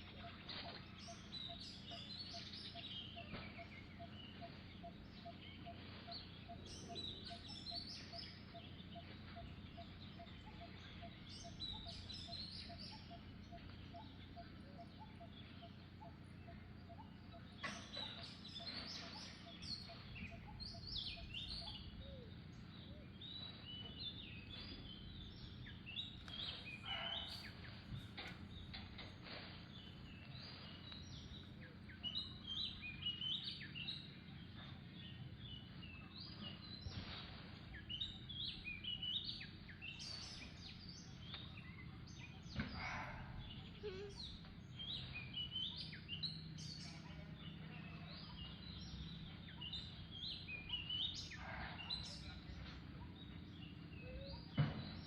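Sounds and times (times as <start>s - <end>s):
birds chirping: 0.0s - 55.0s
low hum of outdoor noise: 0.0s - 55.0s.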